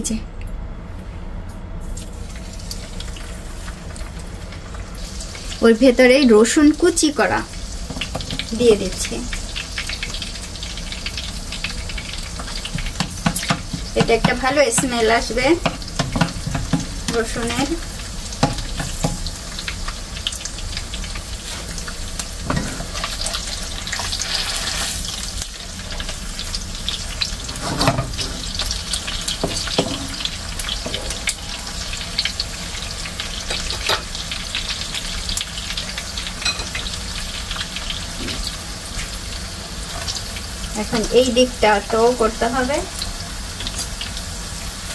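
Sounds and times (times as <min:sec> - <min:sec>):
fish sizzling in butter: 0:02.2 - 0:44.9.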